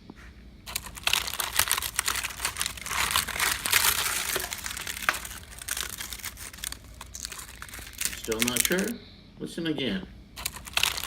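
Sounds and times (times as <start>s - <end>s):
termites crackling inside wood: 0.7s - 8.9s, 10.4s - 11.0s.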